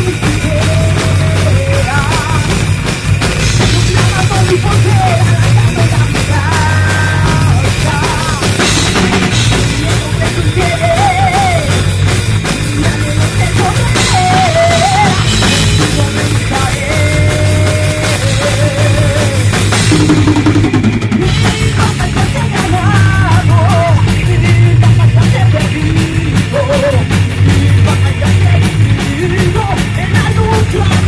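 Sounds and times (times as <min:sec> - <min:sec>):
drum kit: 0:00.0 - 0:31.0
loud rock music: 0:00.0 - 0:31.0.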